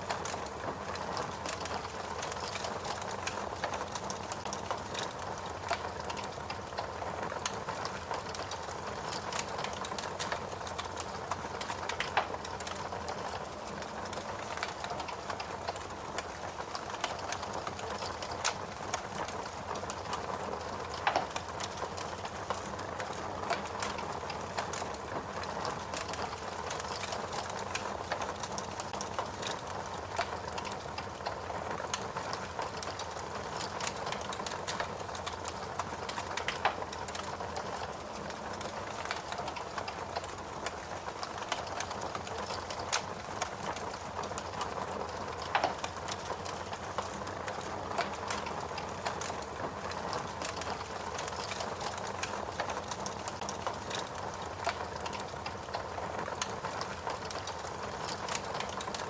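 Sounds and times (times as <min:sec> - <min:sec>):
wood fire crackling: 0:00.0 - 0:59.0
fire snapping loudly: 0:00.1 - 0:59.0.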